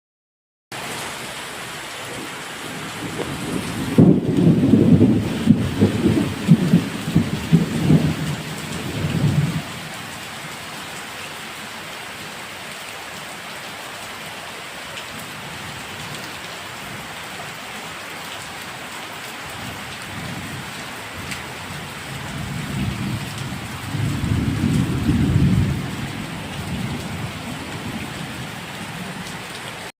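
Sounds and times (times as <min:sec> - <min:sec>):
steady rain falling: 0:00.7 - 0:29.9.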